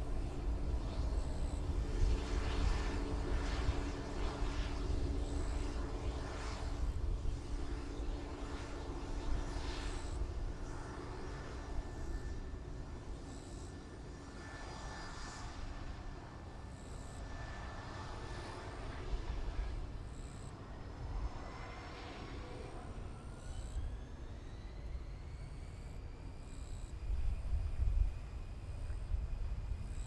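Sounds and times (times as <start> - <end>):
airliner engines rumbling: 0.0 - 30.0
jet engine whine rising: 0.0 - 30.0.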